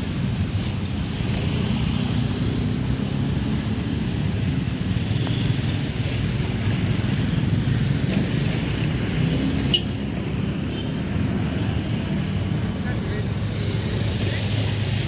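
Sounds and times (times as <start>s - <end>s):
motorcycle engines passing: 0.0s - 15.0s.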